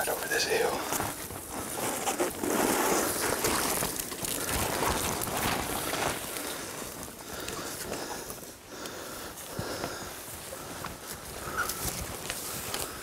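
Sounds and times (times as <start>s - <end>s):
brush rustling against clothing: 0.0s - 8.2s, 9.4s - 13.0s
footsteps crunching: 0.0s - 13.0s.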